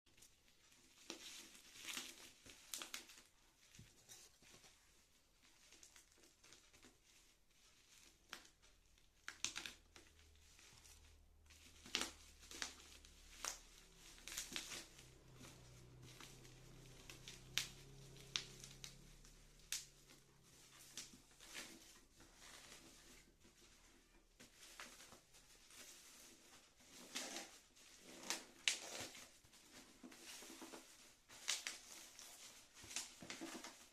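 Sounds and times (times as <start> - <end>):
packaging crinkling and rustling: 0.1 - 33.9.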